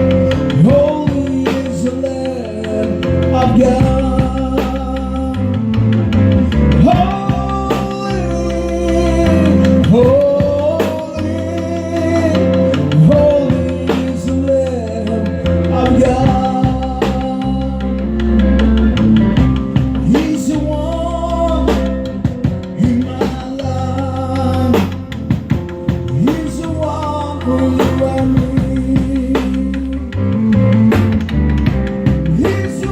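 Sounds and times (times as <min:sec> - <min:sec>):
live band playing a song: 0:00.0 - 0:32.9
person singing: 0:00.0 - 0:32.9.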